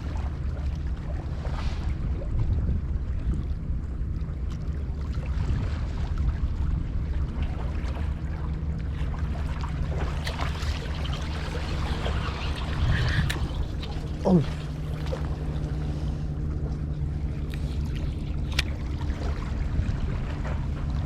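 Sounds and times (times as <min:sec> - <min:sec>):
low engine-like hum: 0:00.0 - 0:21.0
water noise: 0:00.0 - 0:21.0
wind: 0:00.0 - 0:21.0.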